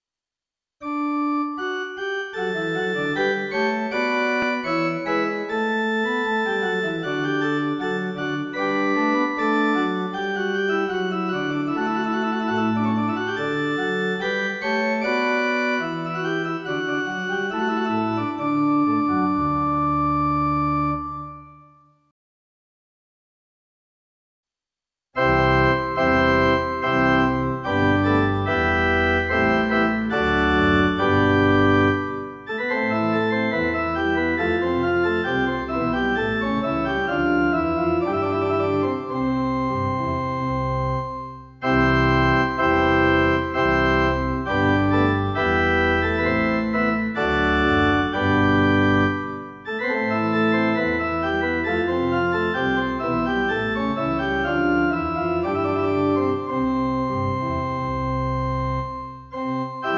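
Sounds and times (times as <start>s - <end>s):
pipe organ chords: 0.8s - 21.8s, 25.2s - 59.9s.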